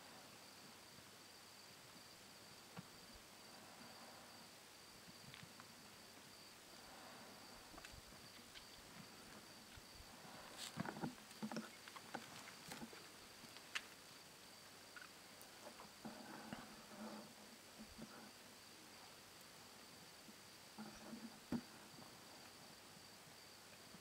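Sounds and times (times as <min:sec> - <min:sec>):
high insect trill: 0:00.0 - 0:24.0
soft hiss: 0:00.0 - 0:24.0.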